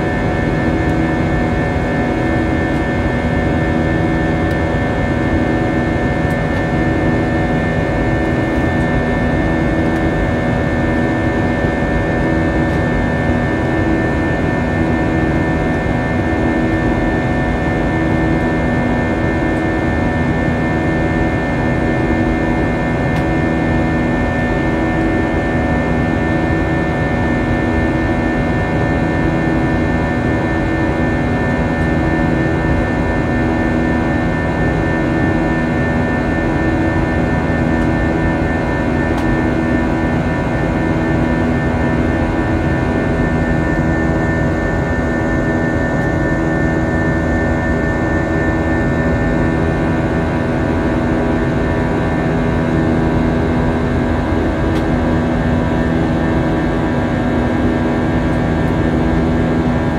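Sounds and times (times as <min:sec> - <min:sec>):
engine humming and whining tones: 0:00.0 - 0:59.9.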